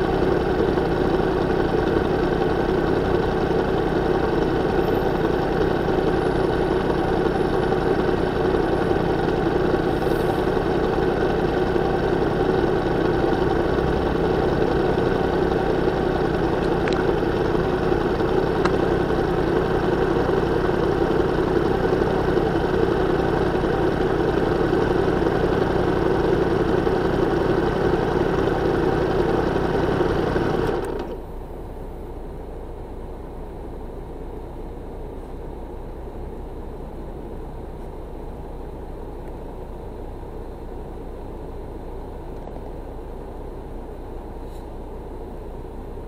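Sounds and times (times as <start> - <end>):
vehicle engine idling: 0.0 - 46.0.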